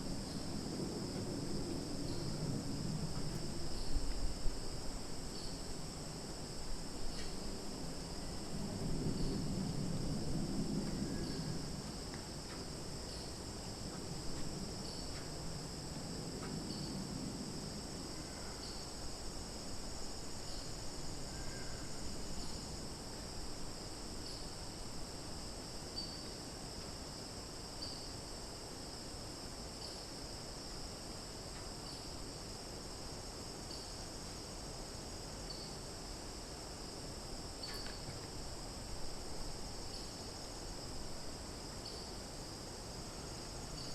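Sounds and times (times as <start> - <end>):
crickets and cicadas chirring: 0.0 - 43.9.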